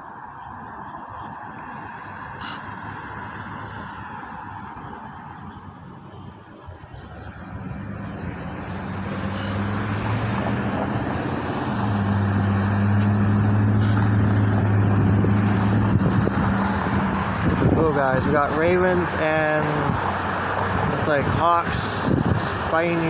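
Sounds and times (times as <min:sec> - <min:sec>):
vehicle engine hum: 0:00.0 - 0:23.0.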